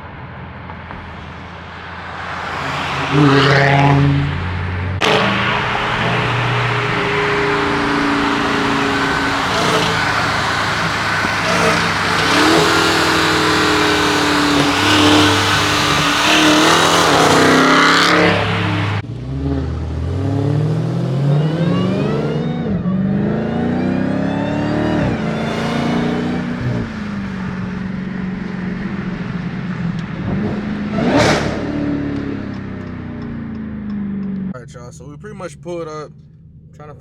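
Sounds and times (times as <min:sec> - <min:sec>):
car engine accelerating: 0:00.0 - 0:37.0
road and exhaust noise: 0:00.0 - 0:37.0.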